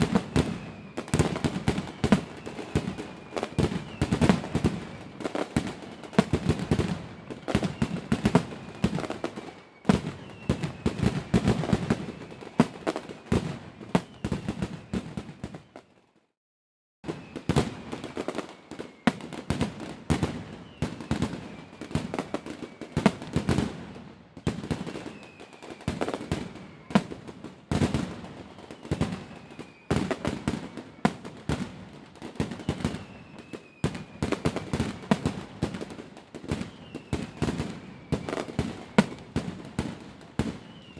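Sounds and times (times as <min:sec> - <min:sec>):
fireworks bangs and crackles: 0:00.0 - 0:16.2, 0:17.0 - 0:40.9.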